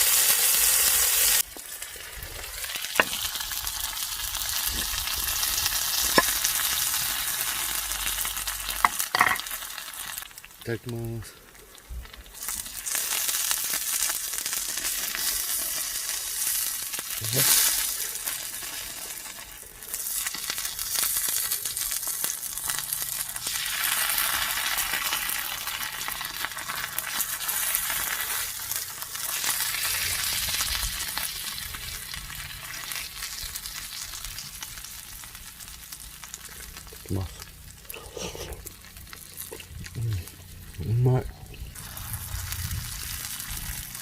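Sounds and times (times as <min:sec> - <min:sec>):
food sizzling in a pan: 0:00.0 - 0:11.1, 0:11.7 - 0:40.8, 0:41.6 - 0:44.0.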